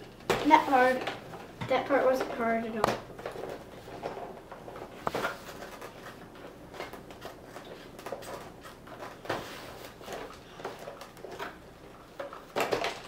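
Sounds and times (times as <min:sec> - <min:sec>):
plastic and cardboard rustling: 0:00.0 - 0:13.0.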